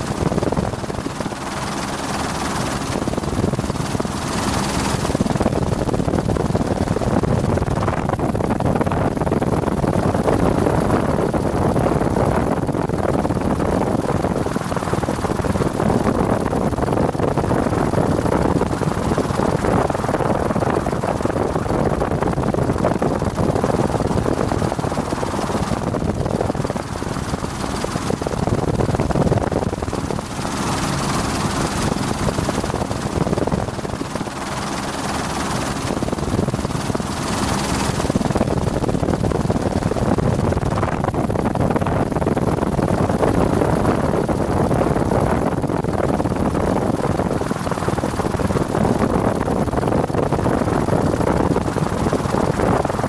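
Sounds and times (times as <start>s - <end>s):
helicopter rotor and engine: 0.0s - 53.0s.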